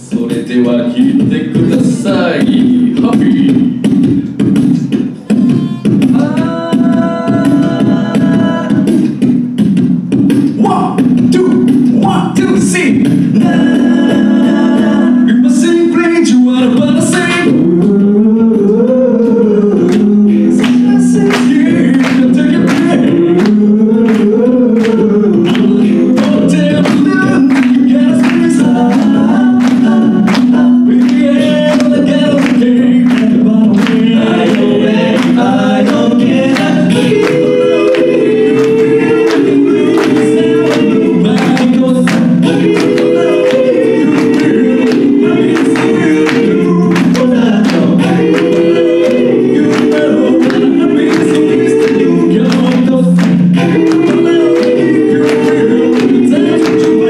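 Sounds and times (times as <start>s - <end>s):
a cappella group singing: 0.0s - 9.4s, 10.2s - 57.0s
beatboxing: 0.0s - 57.0s
vocal bass singing: 0.0s - 57.0s.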